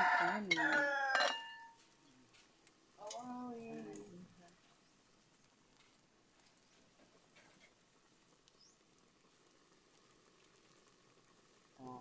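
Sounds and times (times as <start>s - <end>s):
wood fire ticking and crackling: 0.0s - 12.0s
faint hiss: 1.6s - 12.0s.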